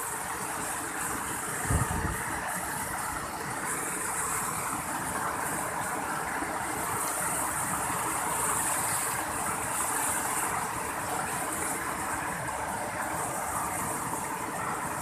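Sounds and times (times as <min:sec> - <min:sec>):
waterfall and rushing stream: 0:00.0 - 0:15.0.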